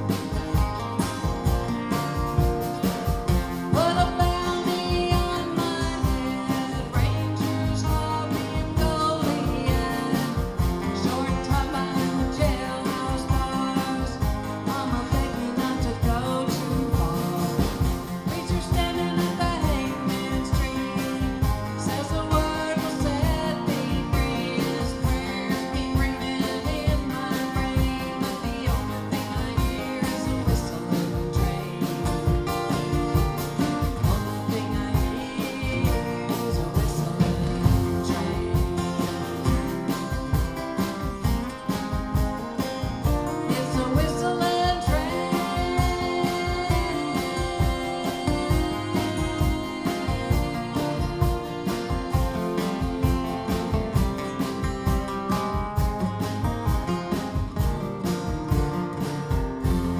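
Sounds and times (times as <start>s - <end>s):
strummed acoustic guitar: 0.0s - 59.9s
woman singing: 0.0s - 59.9s.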